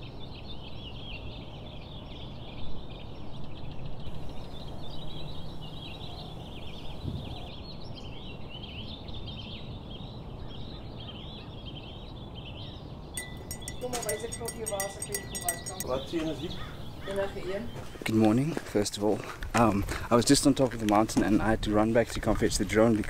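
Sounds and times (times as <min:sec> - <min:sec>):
birds chirping and twittering: 0:00.0 - 0:23.0.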